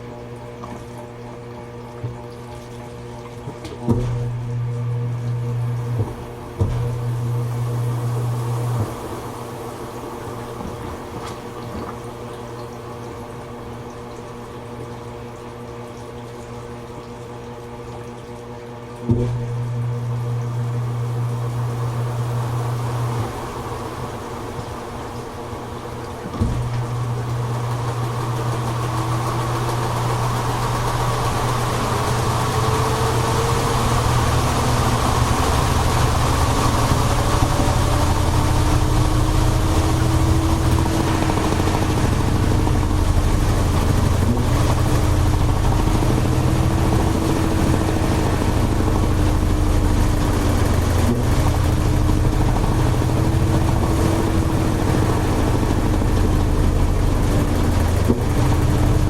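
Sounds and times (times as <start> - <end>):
washing machine drum spinning: 0.0 - 59.0.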